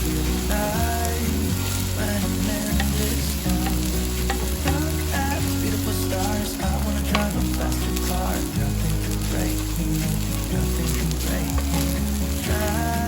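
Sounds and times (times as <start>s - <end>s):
background pop music: 0.0s - 13.0s
food sizzling on grill pan: 0.0s - 13.0s.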